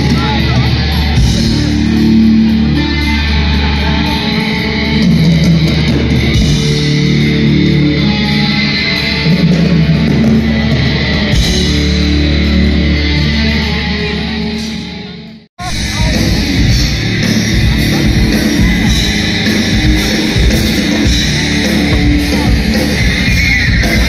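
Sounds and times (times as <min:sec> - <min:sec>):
heavy bass line: 0:00.0 - 0:24.0
live rock band: 0:00.0 - 0:24.0.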